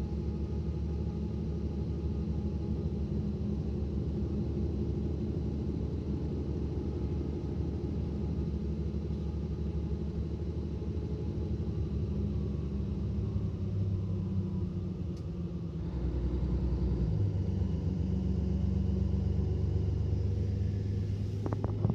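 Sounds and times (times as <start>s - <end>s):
bus diesel engine droning: 0.0s - 21.9s.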